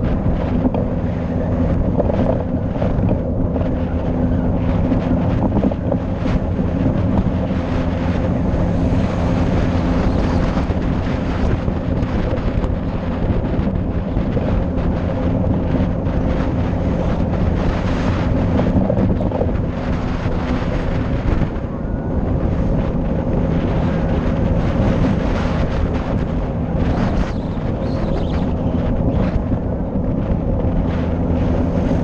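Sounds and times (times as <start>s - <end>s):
vehicle engine cruising: 0.0s - 32.0s
wind rumble on microphone: 0.0s - 32.0s.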